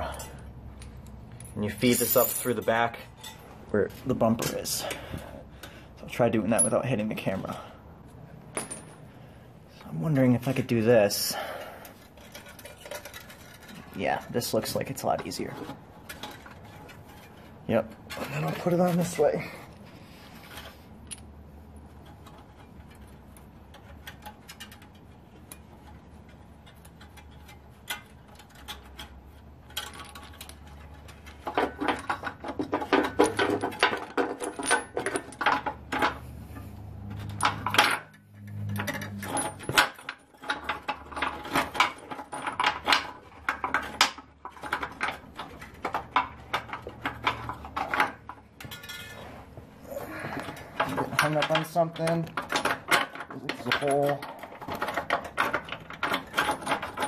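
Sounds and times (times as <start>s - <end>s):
metal bolt clinking and rattling: 0.0s - 7.7s, 8.4s - 49.6s, 50.3s - 57.0s.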